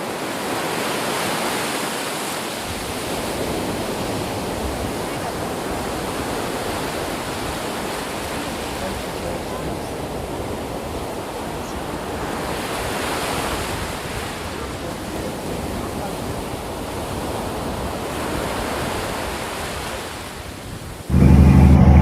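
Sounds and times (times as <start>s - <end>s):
sea waves breaking on shore: 0.0s - 21.1s.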